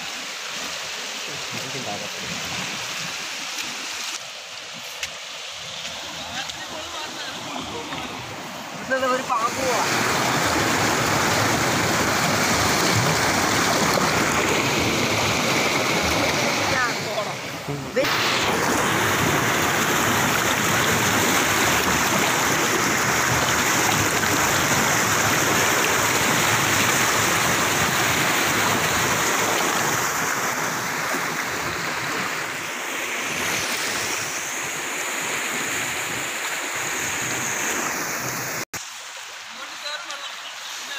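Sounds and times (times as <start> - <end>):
flood water rushing and churning: 0.0 - 40.9.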